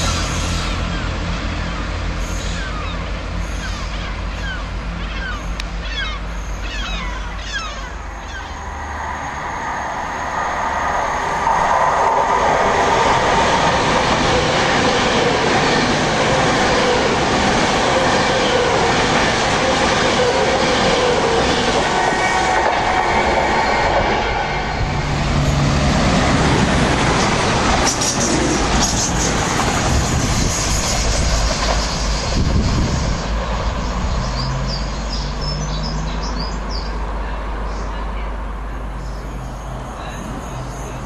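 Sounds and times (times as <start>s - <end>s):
another train approaching: 0.0s - 41.0s
train passing at speed: 0.0s - 41.0s.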